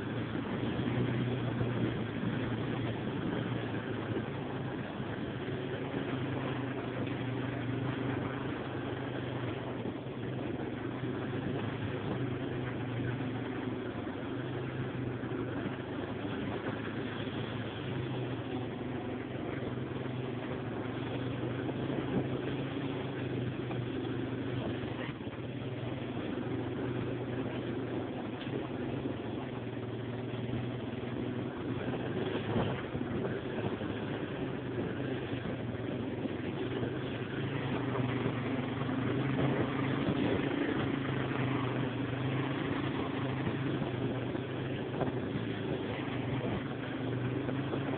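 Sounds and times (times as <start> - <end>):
atv engine running: 0.0 - 47.9.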